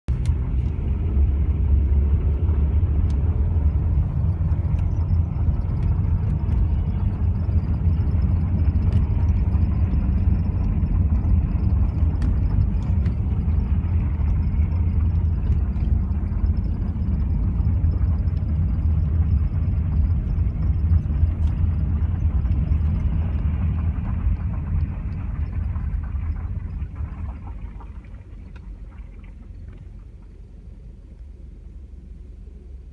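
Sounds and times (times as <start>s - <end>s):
road and engine rumble in car: 0.0s - 32.9s.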